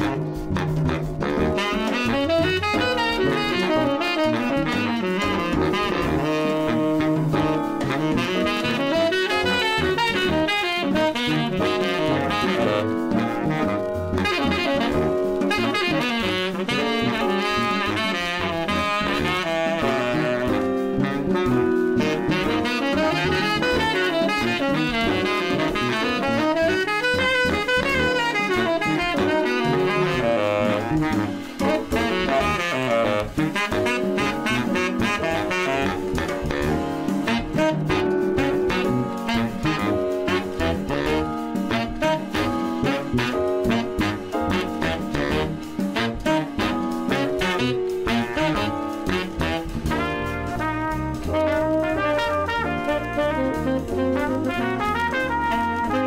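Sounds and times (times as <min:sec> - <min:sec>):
jazz music with saxophone lead: 0:00.0 - 0:56.0.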